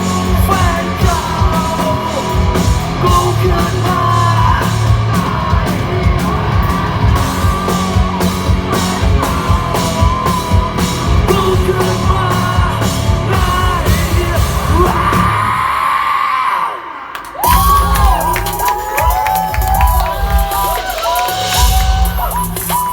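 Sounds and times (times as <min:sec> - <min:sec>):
rock band playing: 0:00.0 - 0:15.6, 0:17.4 - 0:22.9.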